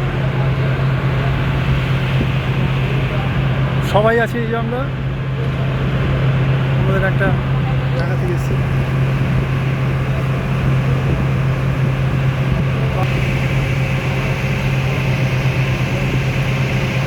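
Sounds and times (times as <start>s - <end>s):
ferry engine droning: 0.0s - 17.0s.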